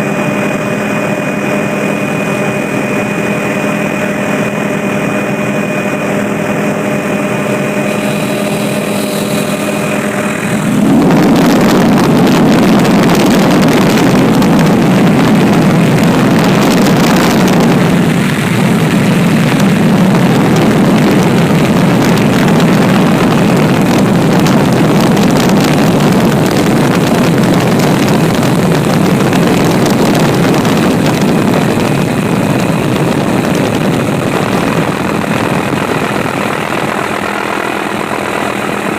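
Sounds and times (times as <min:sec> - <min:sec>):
aircraft engine drone: 0:00.0 - 0:38.9
loud even rush of noise: 0:00.0 - 0:38.9.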